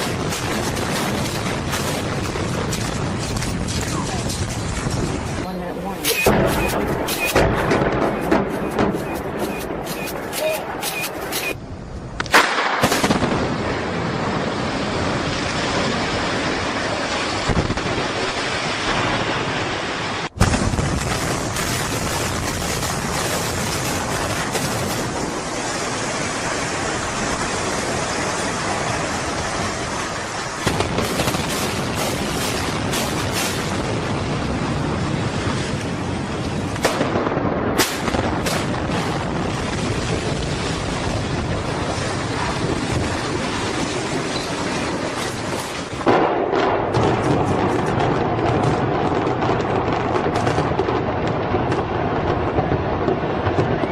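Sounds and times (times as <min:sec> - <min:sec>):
rumble of collapsing building: 0:00.0 - 0:18.2, 0:20.3 - 0:53.9
demolition blast: 0:00.0 - 0:53.9
explosive cracks: 0:00.0 - 0:53.9.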